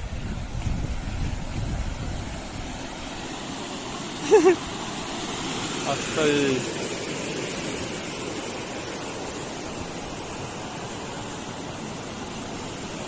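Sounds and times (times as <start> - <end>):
water rushing through sluice gate: 0.0 - 13.0.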